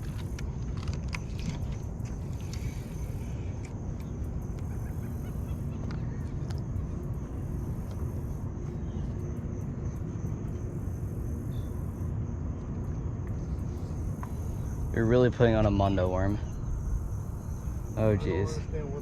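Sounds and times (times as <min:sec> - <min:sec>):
high insect drone: 0:00.0 - 0:19.0
low outdoor rumble: 0:00.0 - 0:19.0.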